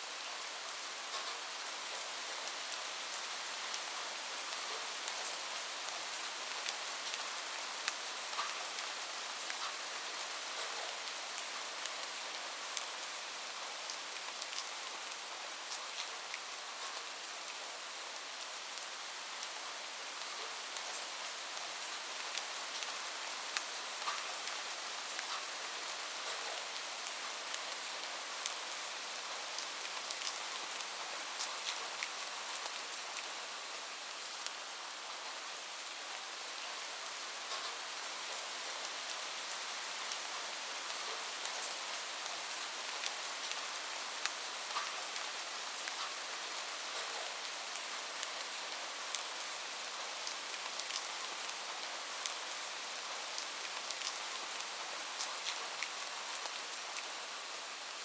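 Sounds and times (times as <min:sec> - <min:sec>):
rain falling on a roof: 0:00.0 - 0:58.0.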